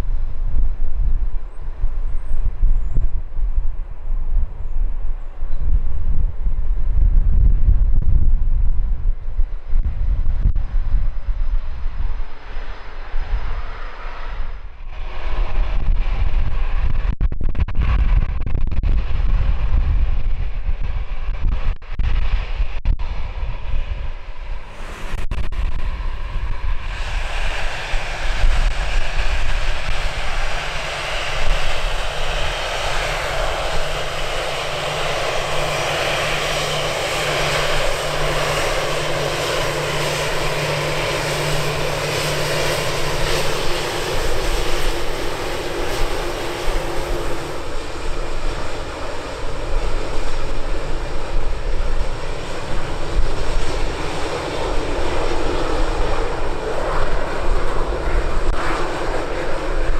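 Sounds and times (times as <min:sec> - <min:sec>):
jet engines of taxiing planes: 0:00.0 - 0:17.2, 0:17.8 - 0:59.9
wind rumble on microphone: 0:00.0 - 0:59.9.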